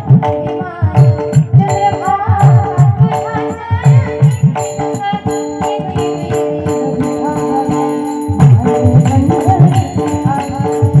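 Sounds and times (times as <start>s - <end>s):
hand drum rhythm: 0.0s - 11.0s
harmonium holding notes: 0.0s - 11.0s
hand cymbals jingling: 1.3s - 11.0s.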